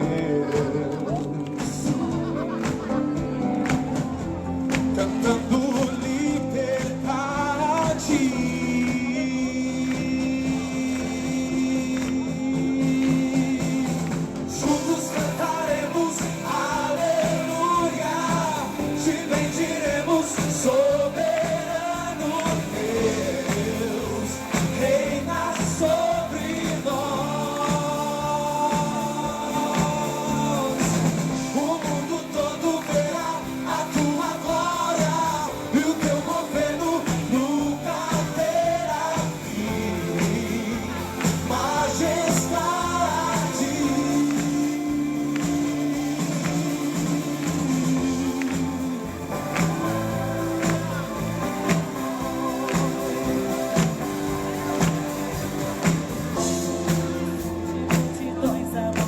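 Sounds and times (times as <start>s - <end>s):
band playing pop-rock song: 0.0s - 59.0s
person singing: 0.0s - 59.0s.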